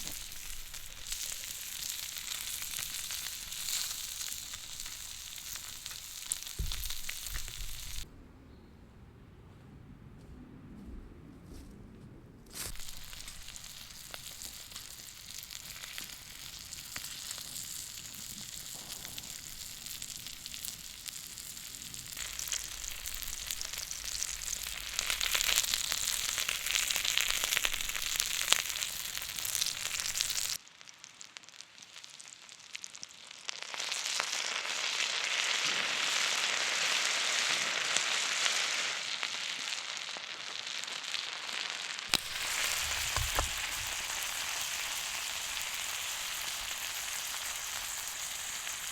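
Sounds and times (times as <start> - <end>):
food sizzling in a hot pan: 0.0 - 8.0, 12.7 - 48.9.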